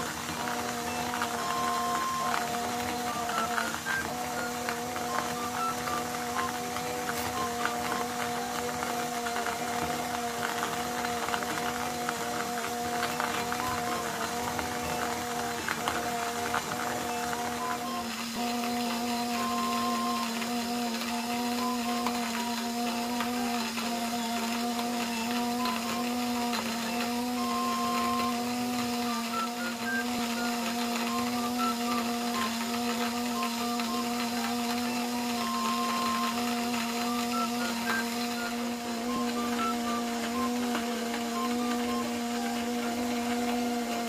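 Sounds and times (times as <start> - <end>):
coffee grinder motor humming: 0.0 - 44.0.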